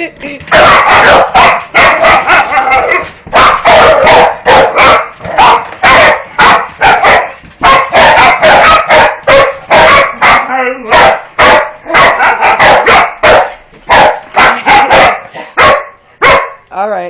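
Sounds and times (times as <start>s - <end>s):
dog barking loudly: 0.5s - 16.6s.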